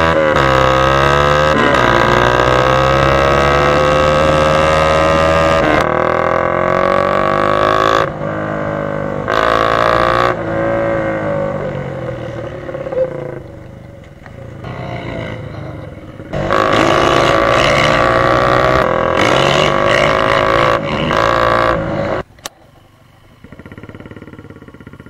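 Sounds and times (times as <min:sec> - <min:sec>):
dirt bike engine revving: 0:00.0 - 0:13.6, 0:14.5 - 0:22.3, 0:23.4 - 0:25.0.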